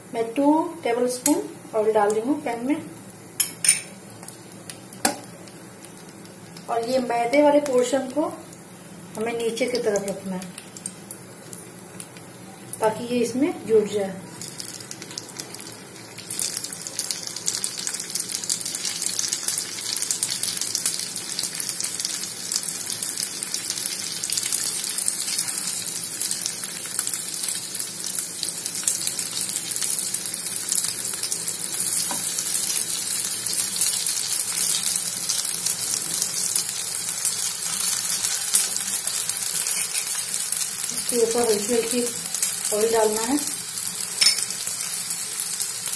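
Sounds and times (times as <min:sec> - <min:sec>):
oil sizzling in frying pan: 0:00.0 - 0:45.9.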